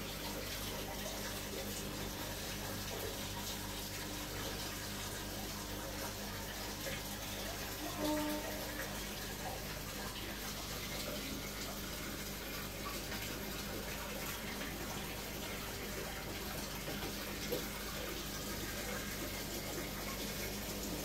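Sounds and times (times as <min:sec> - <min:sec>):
aquarium water splashing: 0:00.0 - 0:21.0.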